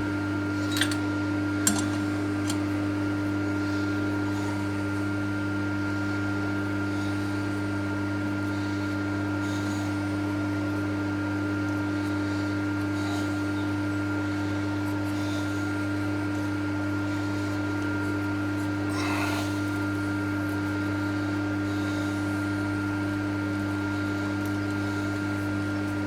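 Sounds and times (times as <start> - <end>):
milling machine humming: 0.0 - 26.0.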